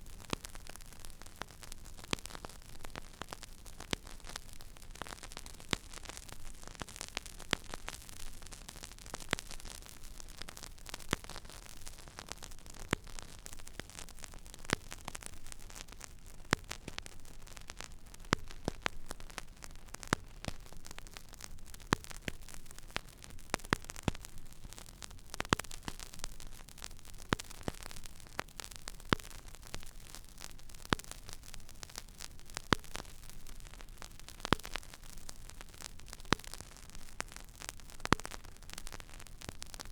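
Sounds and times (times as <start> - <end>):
vinyl crackles: 0.0 - 39.9
vinyl surface hiss: 0.0 - 39.9.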